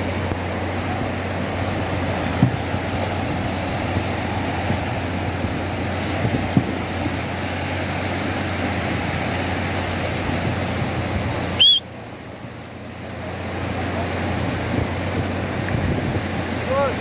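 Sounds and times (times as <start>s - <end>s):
surf washing on beach: 0.0s - 17.0s
wind rumble on microphone: 0.0s - 17.0s.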